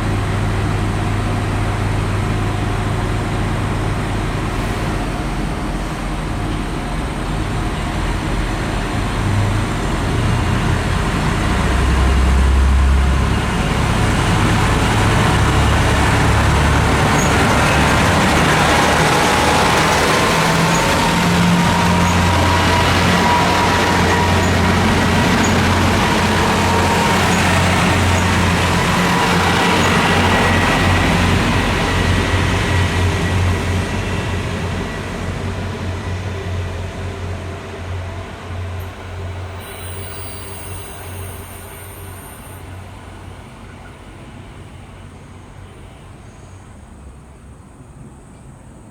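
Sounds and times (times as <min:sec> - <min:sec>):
diesel railcar engine: 0:00.0 - 0:48.9.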